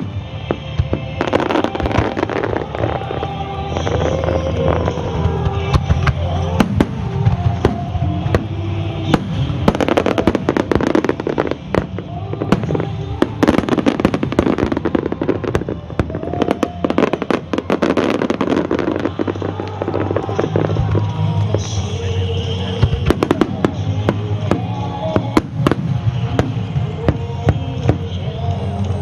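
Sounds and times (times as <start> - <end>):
fireworks bursting and crackling: 0.0 - 29.0
music playing: 0.0 - 29.0.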